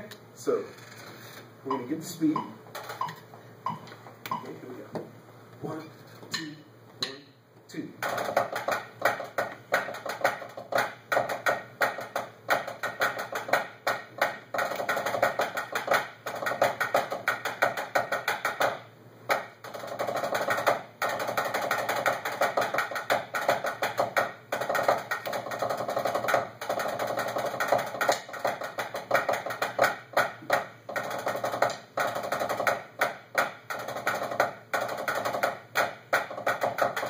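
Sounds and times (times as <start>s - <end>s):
drumsticks on practice pads: 6.2s - 7.4s, 8.0s - 37.0s.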